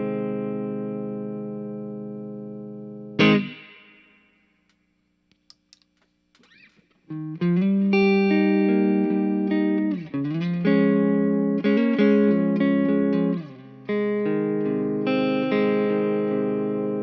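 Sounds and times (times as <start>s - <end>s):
electric guitar chords: 0.0s - 4.2s, 6.5s - 17.0s.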